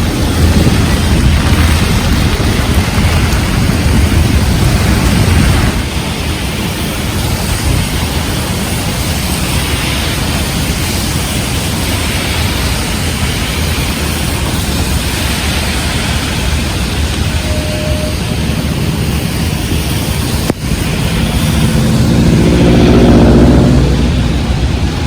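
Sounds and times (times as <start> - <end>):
low rumble: 0.0 - 8.8, 13.4 - 25.0
heavy rain falling: 0.0 - 25.0
wind buffeting microphone: 0.0 - 25.0.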